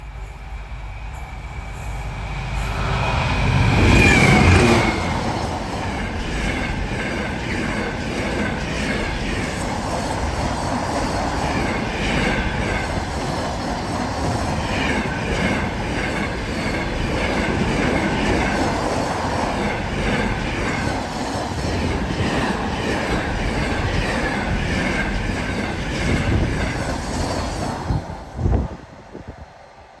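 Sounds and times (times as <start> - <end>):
freight train wheels clattering: 1.9 - 28.9.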